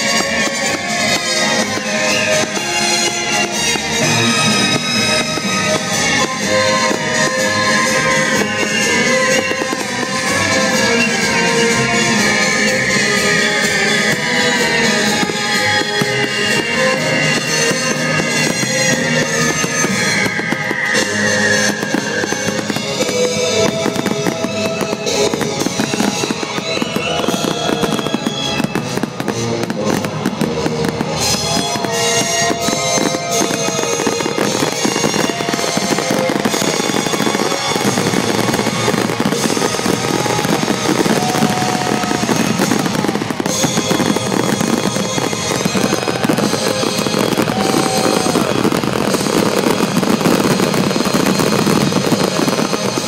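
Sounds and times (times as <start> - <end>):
fireworks bursting and crackling: 0.0 - 53.0
loud music with held tones: 0.0 - 53.0.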